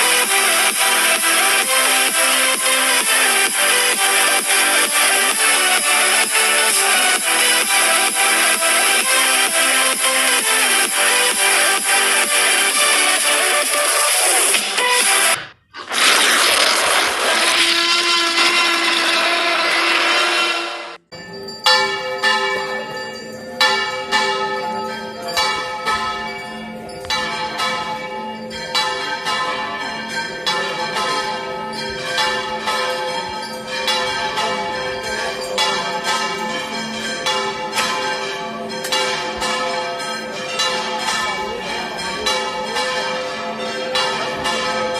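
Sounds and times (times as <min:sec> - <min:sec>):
church bells ringing: 0:00.0 - 0:14.6, 0:21.0 - 0:44.9.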